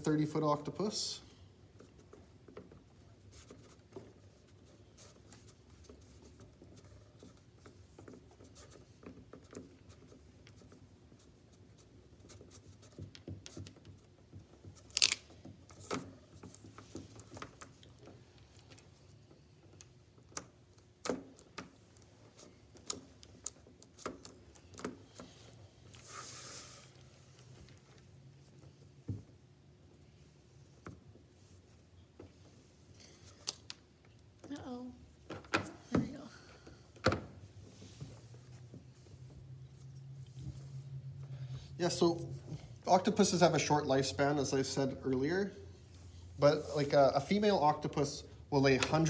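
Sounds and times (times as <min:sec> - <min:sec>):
low room hum: 0:00.0 - 0:49.0.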